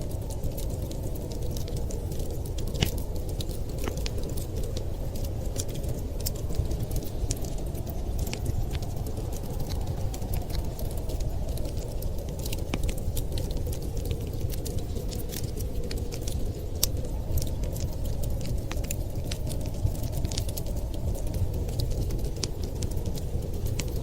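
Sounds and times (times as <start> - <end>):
low rumble of wind: 0.0 - 24.0
wood fire crackling: 0.0 - 24.0.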